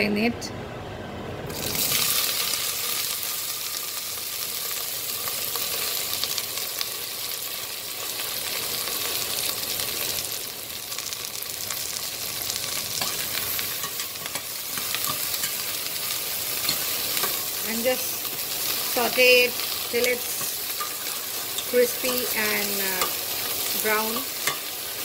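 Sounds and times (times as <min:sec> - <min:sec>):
okra sizzling in hot oil: 0:01.5 - 0:25.0
small crackles of frying: 0:01.5 - 0:25.0.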